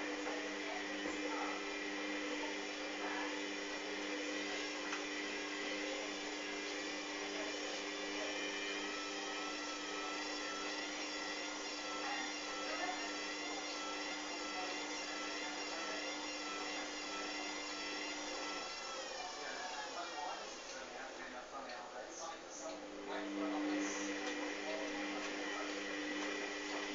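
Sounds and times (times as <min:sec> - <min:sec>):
washing machine motor whine: 0:00.0 - 0:26.9.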